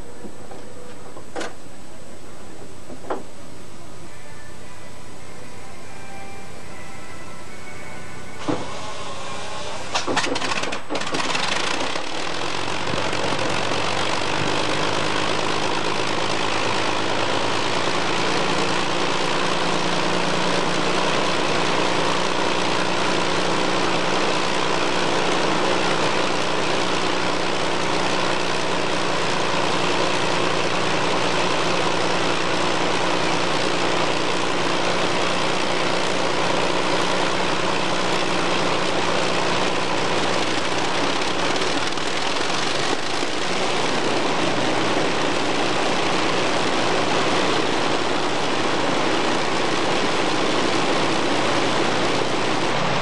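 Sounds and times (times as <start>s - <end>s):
aircraft engine starting and idling: 0.0s - 53.0s.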